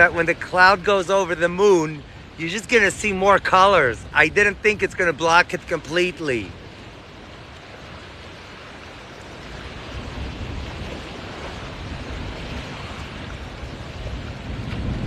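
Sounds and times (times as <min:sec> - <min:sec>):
surf: 0:00.0 - 0:15.0
wind: 0:00.0 - 0:15.0
wind rumbling on microphone: 0:00.0 - 0:15.0.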